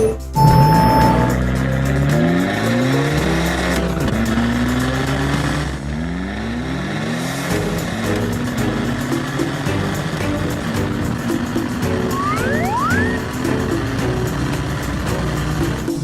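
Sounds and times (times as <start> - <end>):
background music: 0.0 - 5.8, 7.5 - 16.0
vehicle engine accelerating: 0.4 - 16.0.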